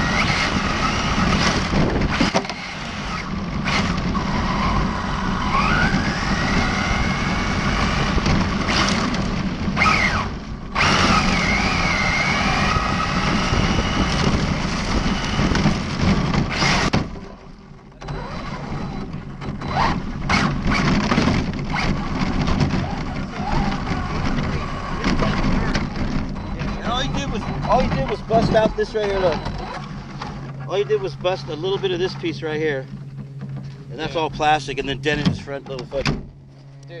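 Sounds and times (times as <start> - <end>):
electric motor whining: 0.0 - 17.1, 18.0 - 37.0
tyre and wind noise: 0.0 - 37.0.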